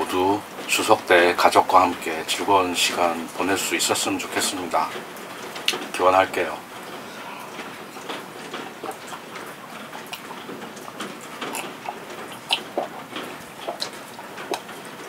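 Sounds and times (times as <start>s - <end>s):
drips ticking: 0.0s - 15.0s
steady rain: 0.0s - 15.0s.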